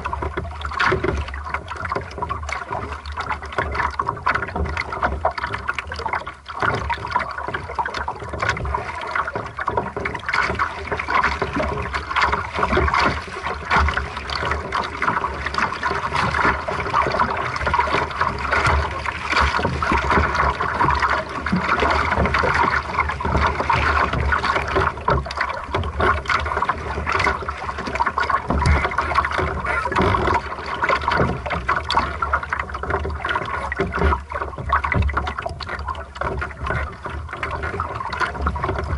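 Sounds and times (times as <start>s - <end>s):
water splashing against hull: 0.0s - 38.9s.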